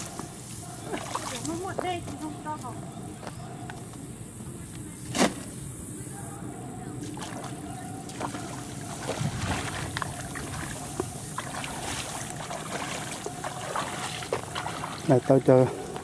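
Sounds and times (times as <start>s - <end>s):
muddy water sloshing: 0.0s - 4.0s, 6.4s - 16.0s
steady background hiss: 0.0s - 16.0s.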